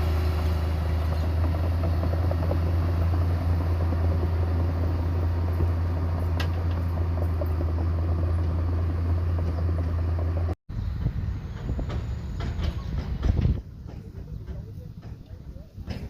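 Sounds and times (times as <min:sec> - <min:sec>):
heavy diesel engine droning: 0:00.0 - 0:15.5
rough uneven engine: 0:00.0 - 0:16.0.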